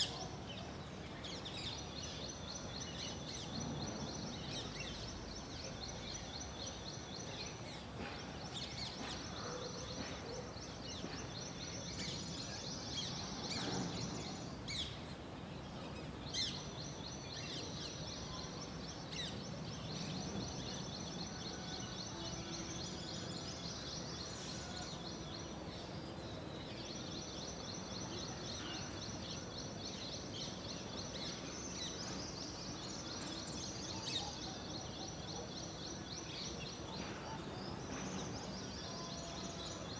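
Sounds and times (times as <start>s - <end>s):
low outdoor background hum: 0.0s - 39.9s.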